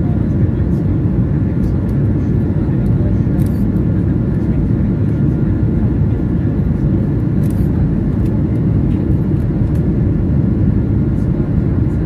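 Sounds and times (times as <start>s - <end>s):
jet engine drone: 0.0s - 12.0s.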